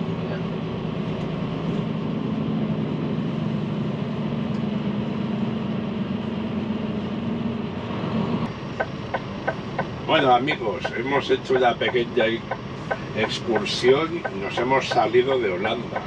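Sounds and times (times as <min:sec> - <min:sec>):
road noise in cab: 0:00.0 - 0:16.0
truck diesel engine drone: 0:00.0 - 0:16.0.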